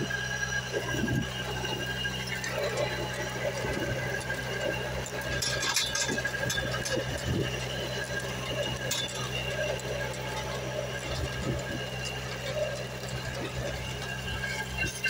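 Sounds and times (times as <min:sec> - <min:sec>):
drilling rig motor humming: 0:00.0 - 0:15.0.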